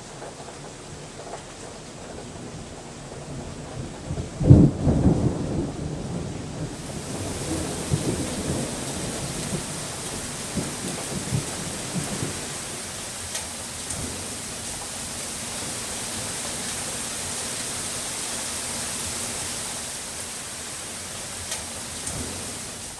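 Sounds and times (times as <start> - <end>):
steady rainfall: 0.0 - 22.9
thunder rolling: 0.1 - 22.9.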